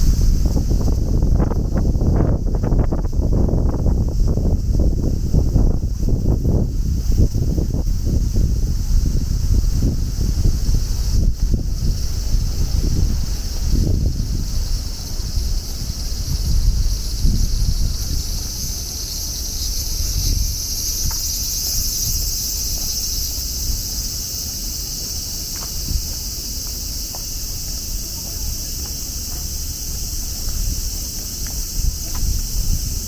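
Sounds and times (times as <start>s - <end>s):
cicadas buzzing: 0.0s - 33.0s
wind buffeting microphone: 0.0s - 33.0s.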